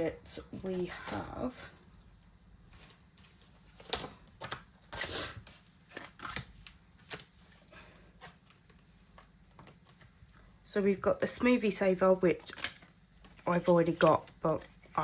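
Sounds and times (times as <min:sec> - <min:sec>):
paper rustling and crinkling: 0:00.5 - 0:10.4, 0:11.4 - 0:15.0.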